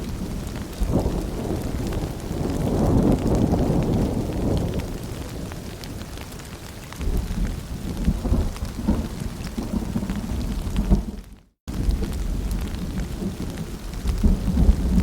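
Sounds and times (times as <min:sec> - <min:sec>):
low rolling thunder: 0:00.0 - 0:06.2, 0:07.0 - 0:15.0
rain falling: 0:00.0 - 0:15.0.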